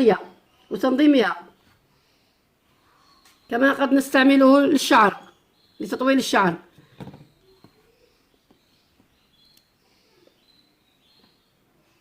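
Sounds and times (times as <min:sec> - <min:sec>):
faint high chirps: 0:00.0 - 0:12.0.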